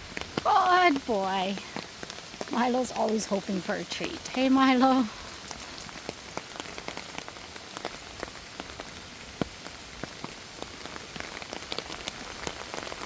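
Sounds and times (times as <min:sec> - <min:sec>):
rain hiss: 0:00.0 - 0:13.0
raindrops ticking: 0:00.0 - 0:13.0.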